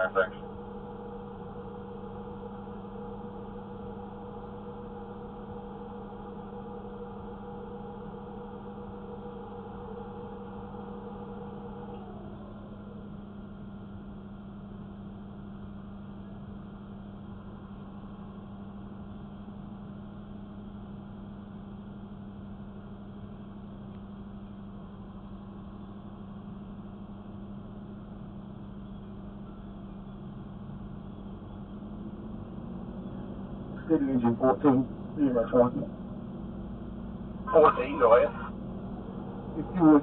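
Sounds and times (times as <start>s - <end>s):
constant low hum: 0.0s - 40.0s
vehicle engine idling: 0.0s - 40.0s.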